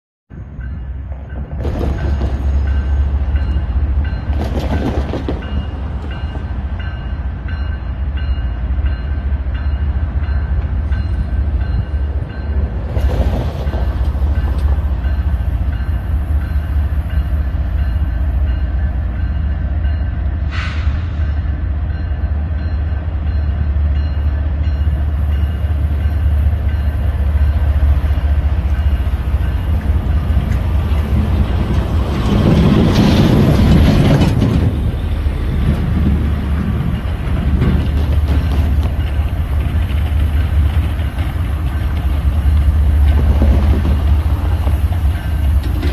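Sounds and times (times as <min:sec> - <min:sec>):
diesel locomotive rumbling: 0:00.3 - 0:45.9.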